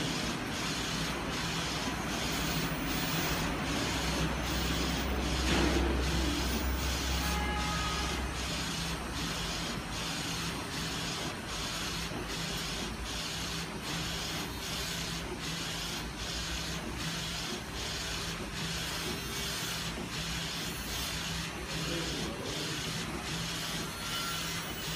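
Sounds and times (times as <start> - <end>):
inkjet printer carriage sweeping: 0.0 - 24.9.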